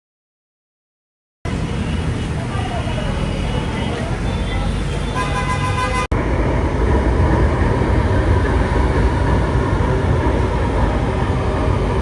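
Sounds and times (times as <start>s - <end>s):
light rail train rumbling: 1.5s - 12.0s.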